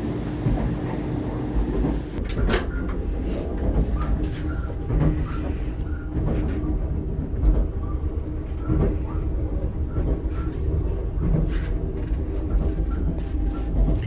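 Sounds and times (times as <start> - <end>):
train carriage rumbling on rails: 0.0 - 14.0.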